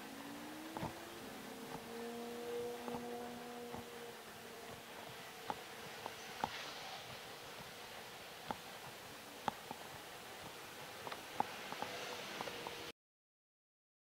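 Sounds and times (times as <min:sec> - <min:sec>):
faint steady hum of held tones: 0:00.0 - 0:12.9.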